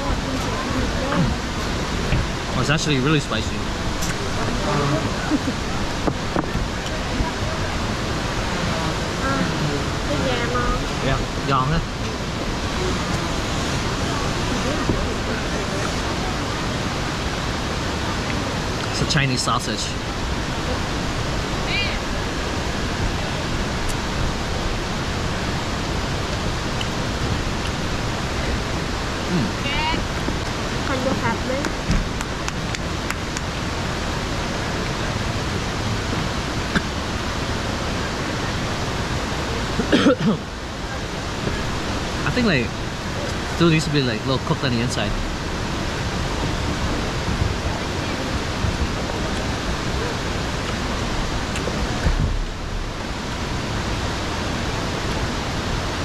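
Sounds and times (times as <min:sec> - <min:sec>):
rushing flowing water: 0:00.0 - 0:56.0.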